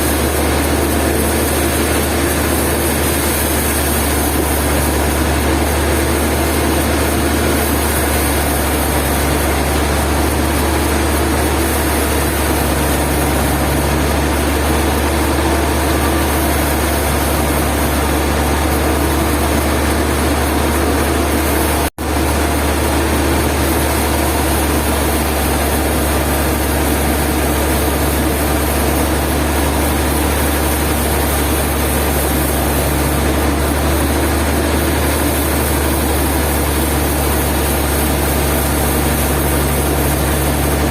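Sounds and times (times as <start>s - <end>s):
sawmill machinery engine drone: 0.0s - 40.9s.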